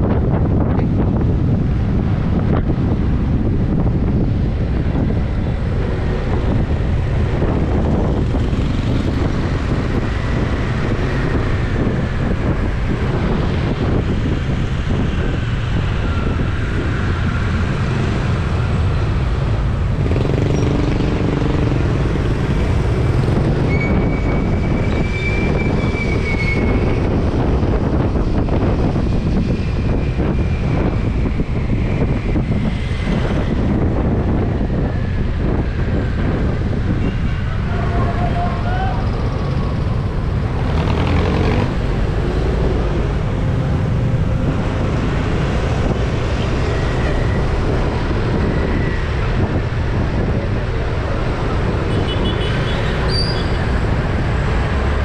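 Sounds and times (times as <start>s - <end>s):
road and traffic rumble: 0.0s - 55.0s
wind buffeting microphone: 0.0s - 55.0s.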